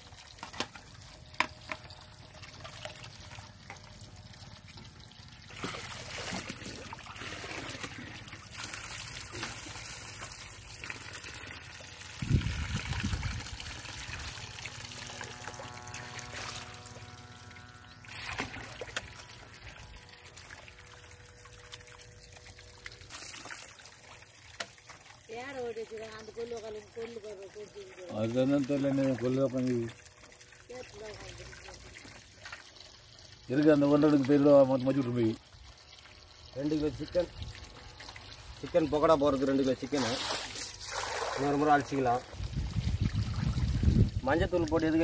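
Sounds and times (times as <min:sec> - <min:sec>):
water splashing onto ground: 0:00.0 - 0:17.3, 0:18.0 - 0:32.8, 0:36.2 - 0:45.0
water sloshing in a steel bowl: 0:00.0 - 0:45.0.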